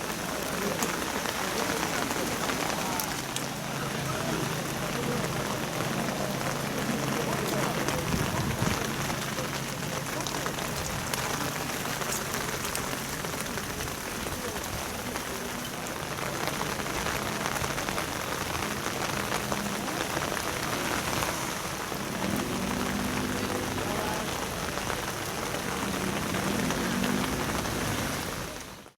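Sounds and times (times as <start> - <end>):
faint voices: 0.0 - 28.9
steady rain on hard surface: 0.0 - 28.9.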